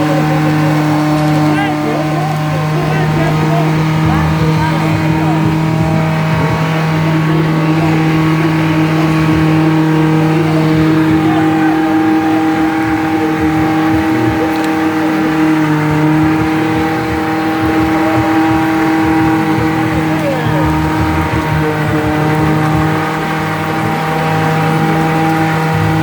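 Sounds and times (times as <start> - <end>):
car engine revving high: 0.0 - 26.0.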